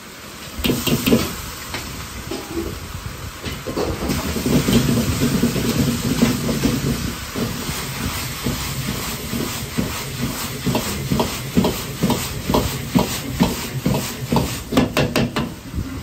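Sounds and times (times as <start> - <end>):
food sizzling in wok: 0.0 - 16.0
gas burner roaring: 0.0 - 16.0.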